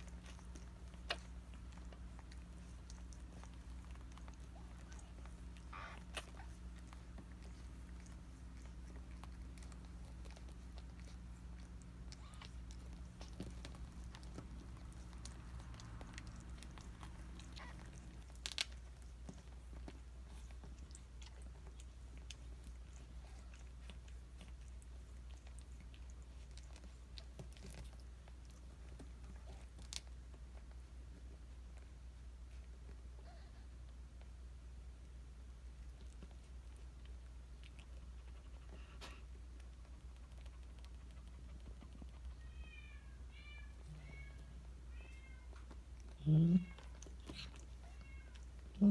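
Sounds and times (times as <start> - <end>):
cat chewing and smacking: 0.0 - 48.9.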